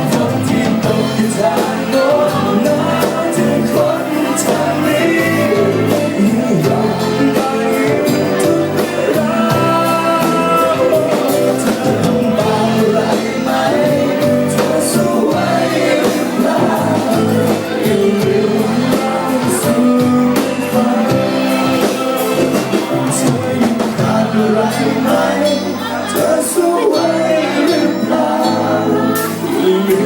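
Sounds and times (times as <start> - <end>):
band music with singing: 0.0 - 30.0.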